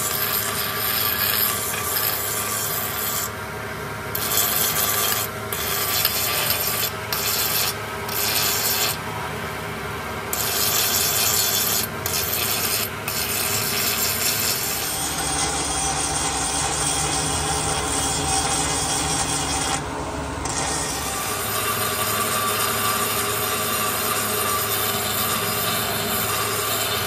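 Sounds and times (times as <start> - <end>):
angle grinder grinding metal: 0.0 - 3.4, 4.2 - 9.0, 10.3 - 19.8, 20.4 - 27.0.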